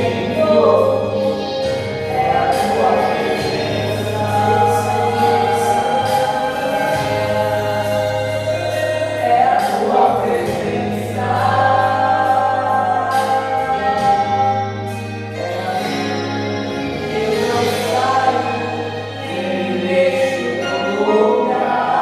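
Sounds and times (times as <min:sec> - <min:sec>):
band accompaniment: 0:00.0 - 0:21.9
choir singing a gospel hymn: 0:00.0 - 0:22.0.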